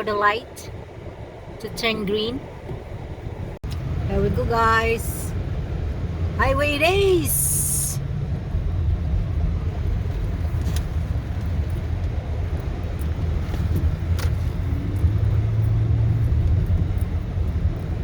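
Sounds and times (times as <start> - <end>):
car engine and tyre rumble: 0.0 - 18.0
low engine hum: 0.0 - 18.0.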